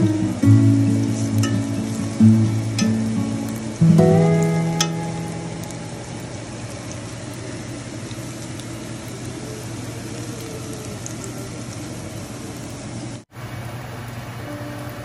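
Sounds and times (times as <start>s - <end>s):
oil sizzling in a skillet: 0.0s - 15.0s.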